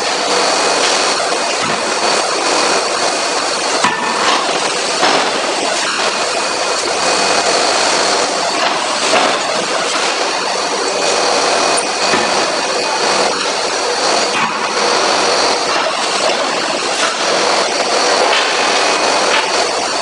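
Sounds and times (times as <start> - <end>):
machinery din with hiss: 0.0 - 20.0.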